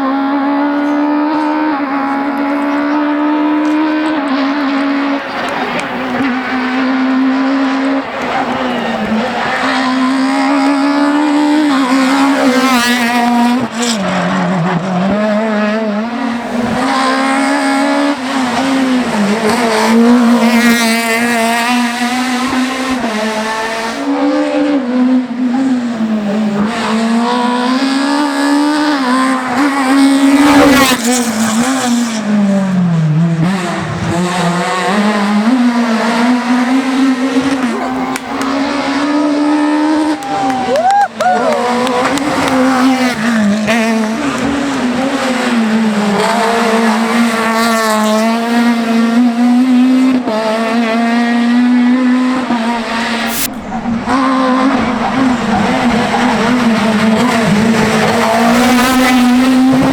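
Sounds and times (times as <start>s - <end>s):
rally car engine at high revs: 0.0s - 59.9s.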